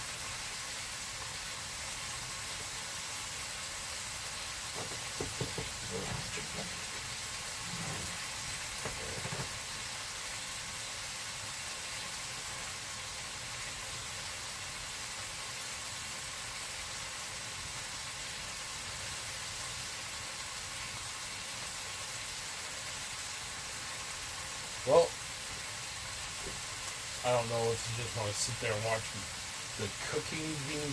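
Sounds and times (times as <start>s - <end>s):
food frying sizzle: 0.0s - 30.9s.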